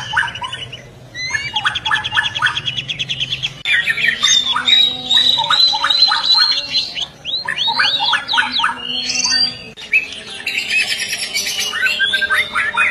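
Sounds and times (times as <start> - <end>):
bird singing varied song: 0.0 - 12.9.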